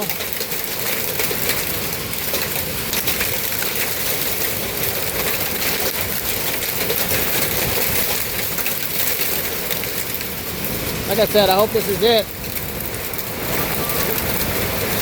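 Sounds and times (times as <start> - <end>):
downpour rushing: 0.0 - 15.0
hail pelting an awning: 0.0 - 15.0.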